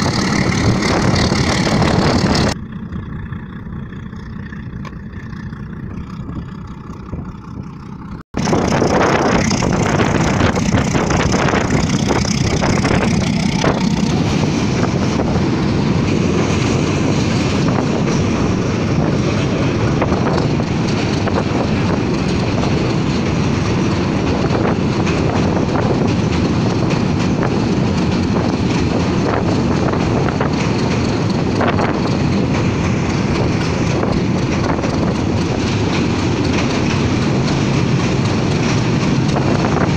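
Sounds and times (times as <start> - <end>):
wind rushing over microphone: 0.0 - 3.3, 8.4 - 39.9
train wheels rumbling on rails: 0.0 - 39.9.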